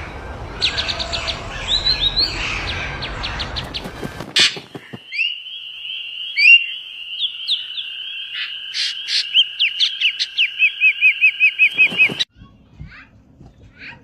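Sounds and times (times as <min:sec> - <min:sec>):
birds chirping: 0:00.1 - 0:12.3
short sweeping bird calls: 0:00.6 - 0:12.3.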